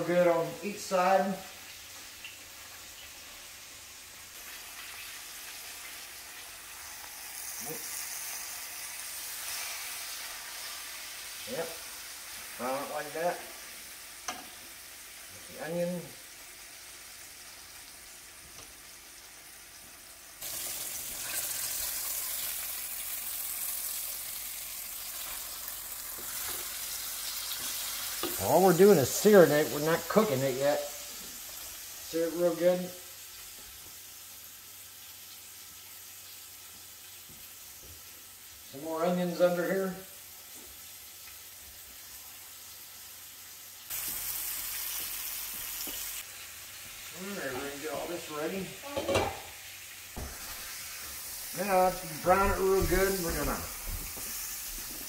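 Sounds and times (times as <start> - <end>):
meat sizzling in a skillet: 0.0 - 55.0.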